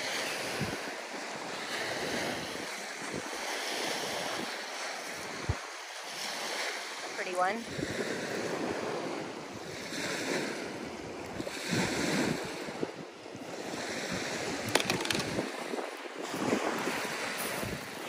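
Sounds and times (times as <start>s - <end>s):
wind buffeting microphone: 0.0s - 6.8s, 7.6s - 18.0s
waves washing onto rocky beach: 0.0s - 18.0s.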